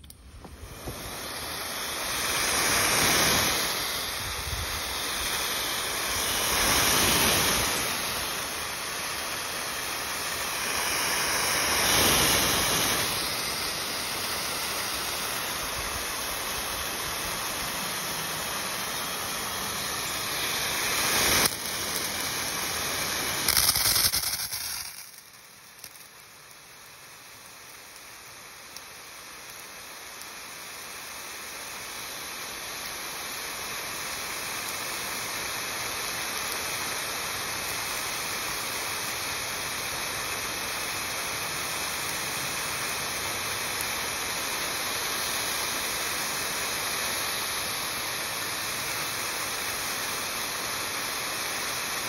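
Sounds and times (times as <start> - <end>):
sprinkler spraying water: 0.0 - 52.0.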